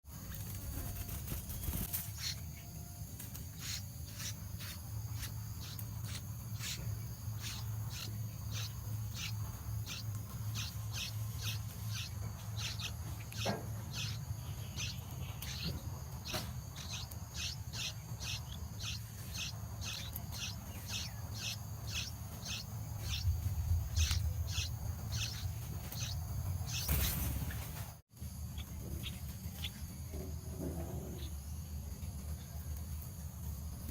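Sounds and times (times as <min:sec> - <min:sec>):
bird chirping: 0:00.1 - 0:31.9.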